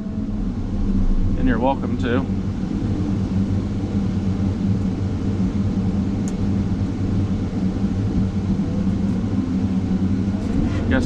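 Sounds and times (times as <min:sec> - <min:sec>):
wheel loader diesel engine droning: 0:00.0 - 0:11.0.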